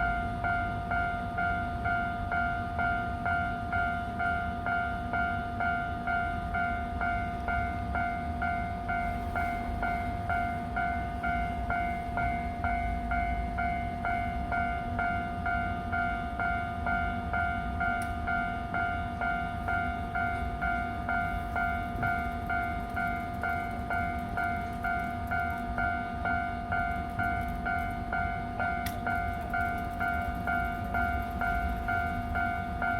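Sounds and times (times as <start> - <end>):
level crossing alarm clanging: 0.0 - 32.9.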